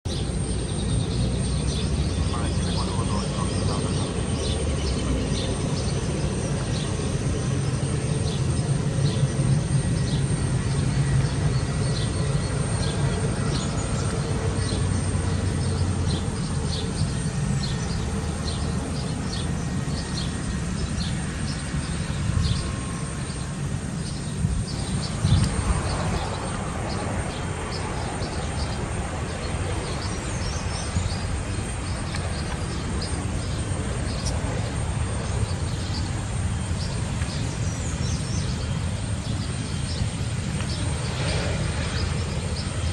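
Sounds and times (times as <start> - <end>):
birds chirping: 0.1 - 42.9
jet engines rumbling: 0.1 - 42.9.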